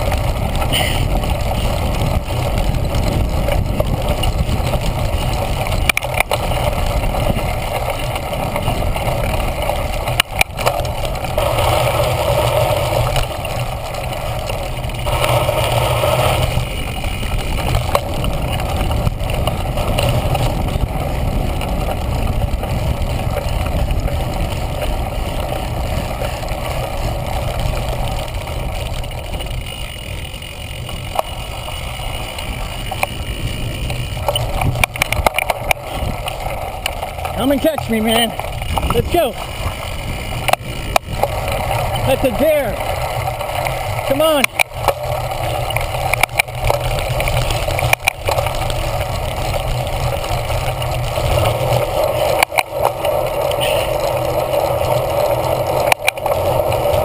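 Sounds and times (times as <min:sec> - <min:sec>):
bike ride rumble on grass: 0:00.0 - 0:57.0
wind rush: 0:00.0 - 0:57.0.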